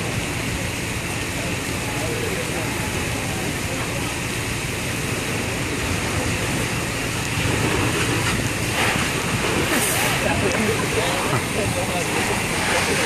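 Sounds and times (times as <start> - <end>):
engine rumbling: 0.0 - 13.0
fire hose spraying water: 0.0 - 13.0.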